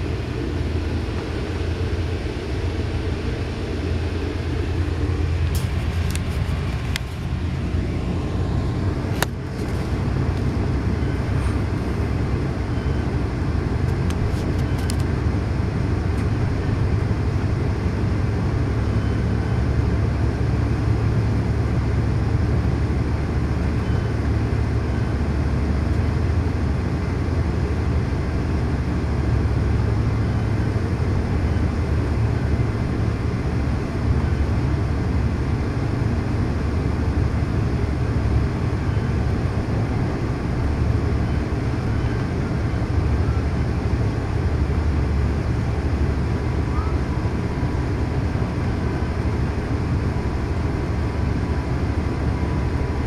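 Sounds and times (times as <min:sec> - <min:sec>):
train coach rumbling on track: 0:00.0 - 0:53.0.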